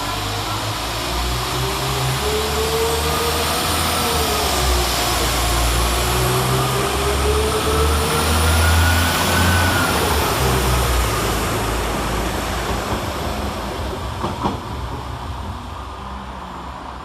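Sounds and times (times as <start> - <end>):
diesel train engine whining: 0.0 - 17.0.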